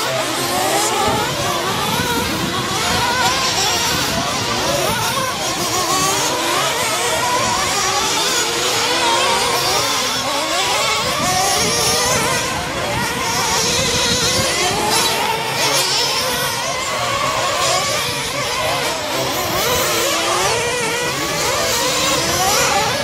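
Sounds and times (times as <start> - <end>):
radio-controlled truck motors: 0.0 - 23.0.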